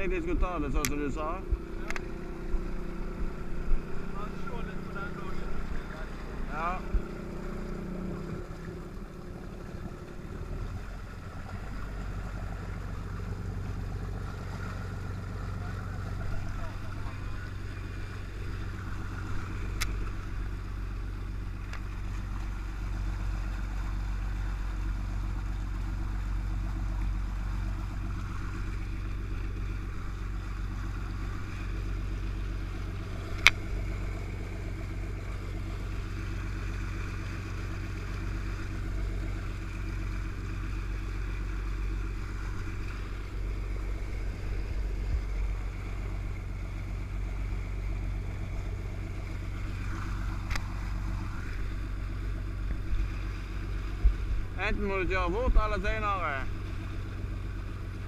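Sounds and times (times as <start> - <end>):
motorboat engine drone: 0.0 - 58.0
rushing water and wind: 0.0 - 58.0.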